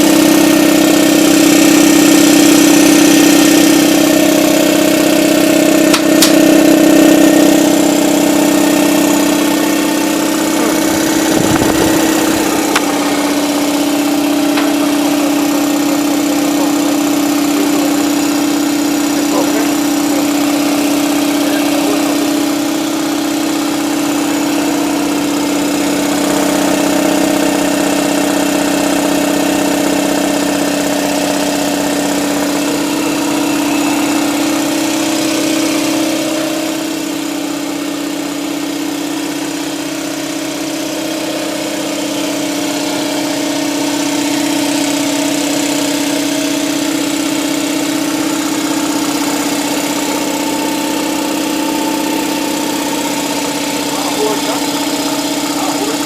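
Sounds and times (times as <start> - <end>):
air compressor humming: 0.0 - 56.0.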